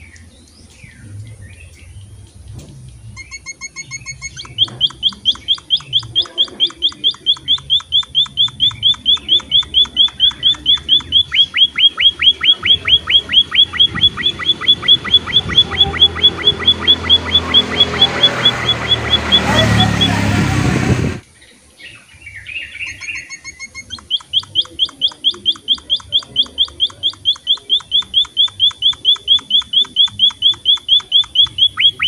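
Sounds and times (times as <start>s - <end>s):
finches chirping: 0.0s - 20.4s, 21.8s - 32.0s
finch piping notes: 0.8s - 21.2s, 22.7s - 32.0s.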